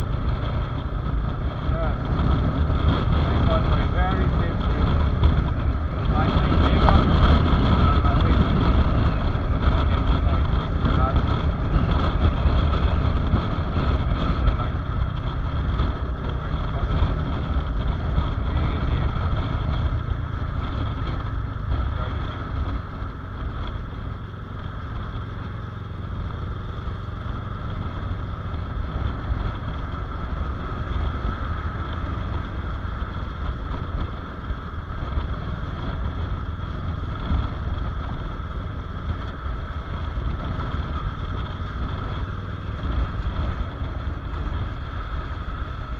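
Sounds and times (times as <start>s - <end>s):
motorcycle engine running: 0.0s - 45.9s
wind rumble on microphone: 0.0s - 45.9s.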